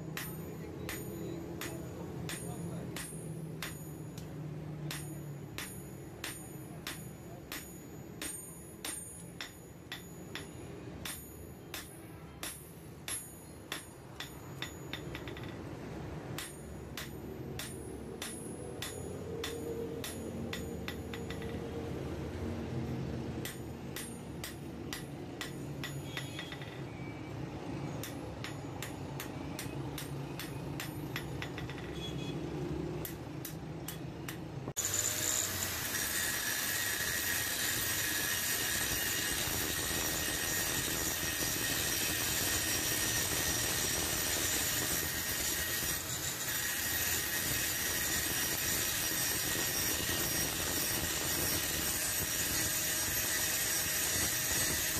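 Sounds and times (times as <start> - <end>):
hammer striking blade on anvil: 0.0 - 21.8, 23.0 - 27.1, 27.8 - 32.3, 33.0 - 54.9.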